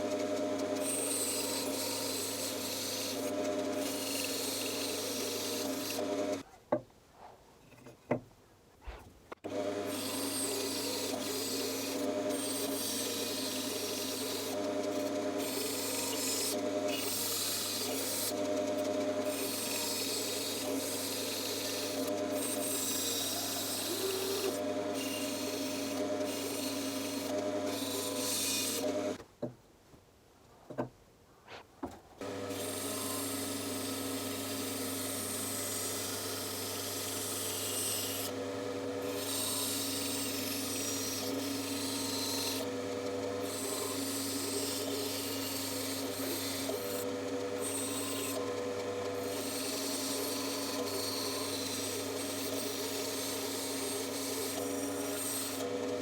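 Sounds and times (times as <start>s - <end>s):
bandsaw motor humming: 0.0s - 6.4s, 9.4s - 29.2s, 32.2s - 56.0s
blade rasping through wood: 0.0s - 6.4s, 9.5s - 29.2s, 32.2s - 56.0s.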